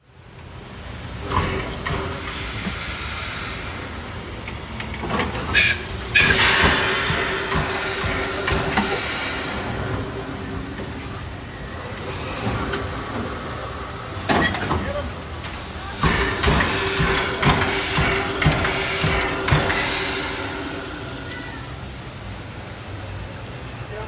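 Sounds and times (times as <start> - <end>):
steam locomotive hissing: 0.1 - 24.0
bursts of escaping steam: 0.7 - 22.9.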